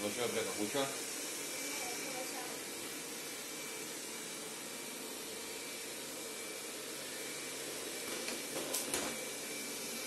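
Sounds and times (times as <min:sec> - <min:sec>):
robot vacuum whooshing with whine: 0:00.0 - 0:10.0.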